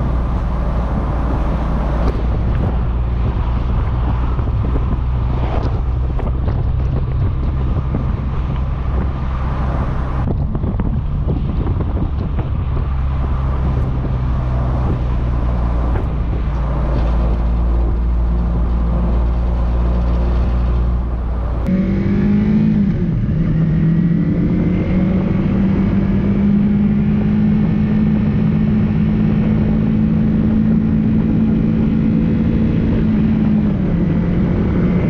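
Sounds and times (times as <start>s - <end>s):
wind on microphone: 0.0s - 35.0s.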